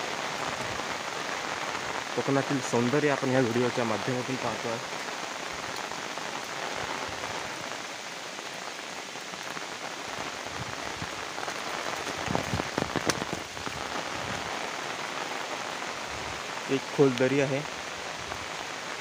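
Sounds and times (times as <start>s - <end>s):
rain on foliage: 0.0s - 19.0s.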